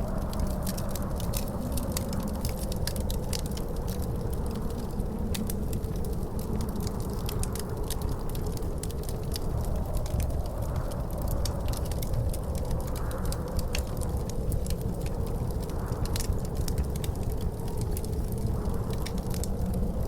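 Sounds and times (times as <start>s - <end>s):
wind rumbling and howling: 0.0s - 20.0s
wood fire crackling and popping: 0.0s - 20.0s.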